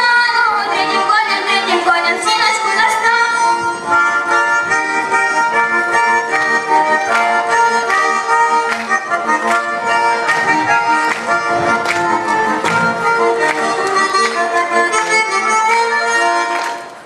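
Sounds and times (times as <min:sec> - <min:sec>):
accordion folk tune: 0:00.0 - 0:17.0.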